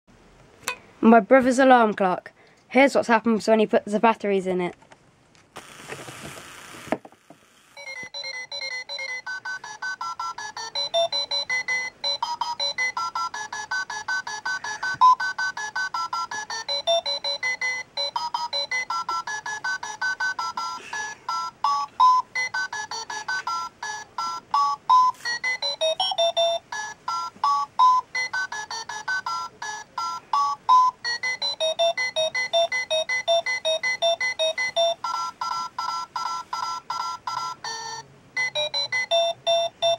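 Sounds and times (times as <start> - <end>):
alarm clock beeping tune: 7.8 - 39.9.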